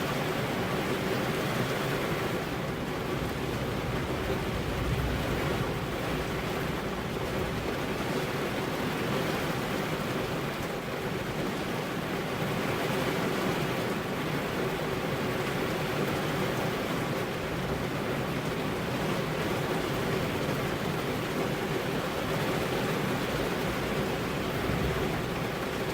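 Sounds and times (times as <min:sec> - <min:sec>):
steady rainfall: 0:00.0 - 0:25.9.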